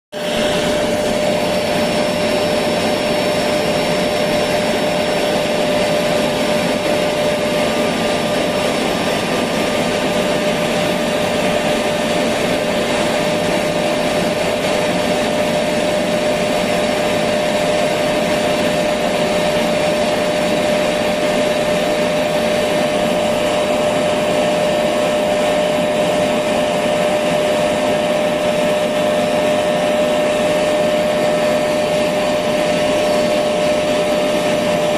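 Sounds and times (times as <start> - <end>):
vacuum cleaner running: 0.1 - 34.9.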